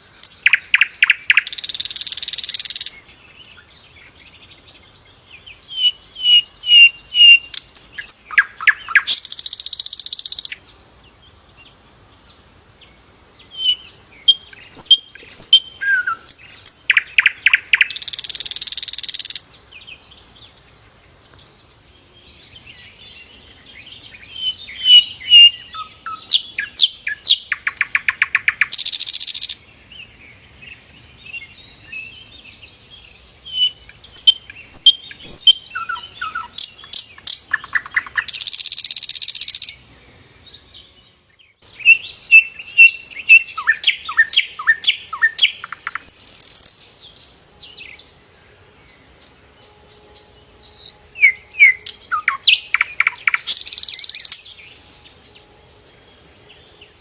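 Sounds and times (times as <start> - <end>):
flycatcher singing: 0.0 - 11.3, 13.4 - 20.7, 21.3 - 29.6, 30.7 - 39.9, 40.5 - 48.2, 48.8 - 57.0.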